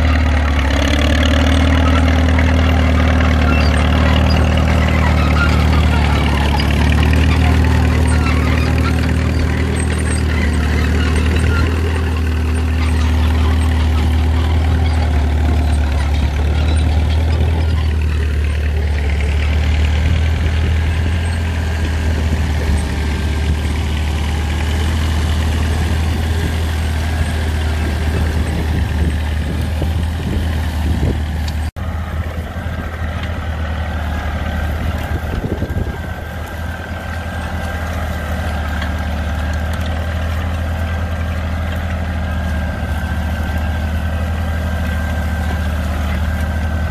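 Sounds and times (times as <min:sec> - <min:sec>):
compact tractor engine whining: 0:00.0 - 0:46.9
tractor diesel engine under load: 0:00.0 - 0:46.9.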